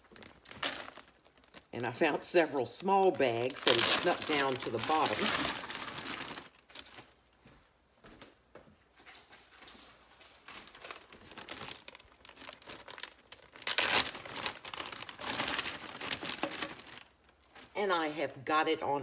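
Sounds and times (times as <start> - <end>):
plastic bag crinkling: 0.0 - 7.2, 9.7 - 17.7.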